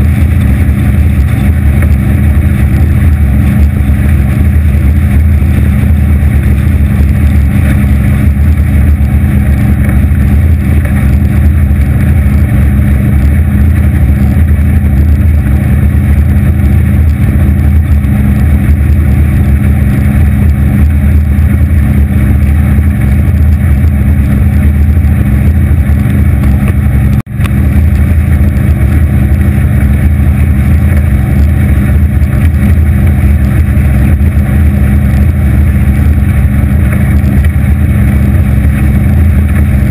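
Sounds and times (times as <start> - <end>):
hull and water noise: 0.0 - 39.9
outboard motor drone: 0.0 - 39.9.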